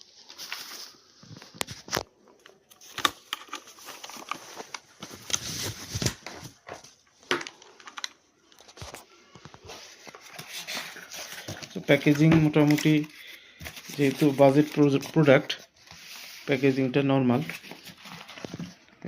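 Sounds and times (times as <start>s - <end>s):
packaging rustling: 0.0s - 16.5s, 17.4s - 19.0s.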